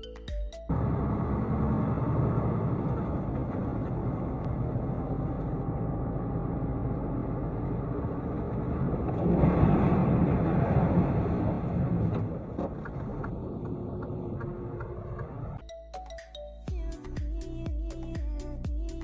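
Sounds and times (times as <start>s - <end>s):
car engine and road noise: 0.0s - 15.6s.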